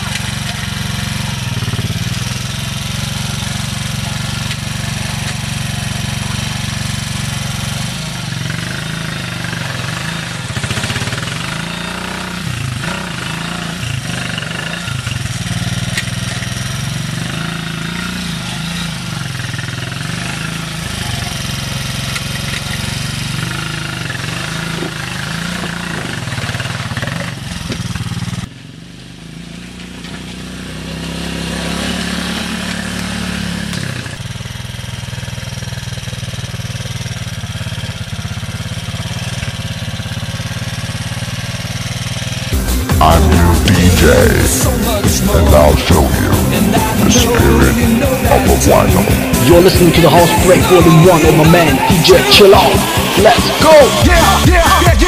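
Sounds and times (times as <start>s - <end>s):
quad engine revving: 0.0s - 28.5s, 29.6s - 55.0s.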